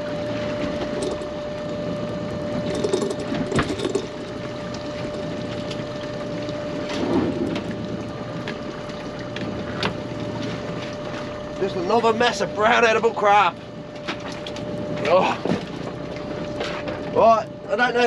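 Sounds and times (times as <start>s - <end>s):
pot hauler winch whining: 0.0s - 17.8s.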